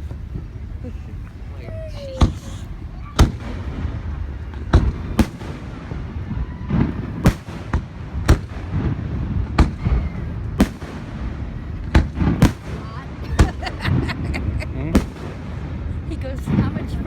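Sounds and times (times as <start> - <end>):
constant low rumble: 0.0 - 17.0.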